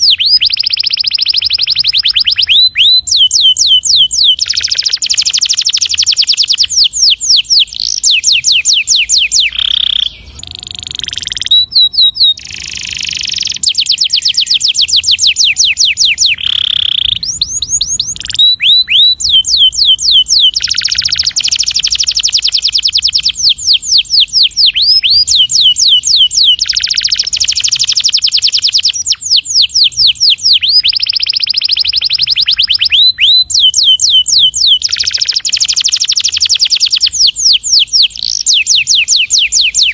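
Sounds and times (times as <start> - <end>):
canary trilling: 0.0 - 39.9.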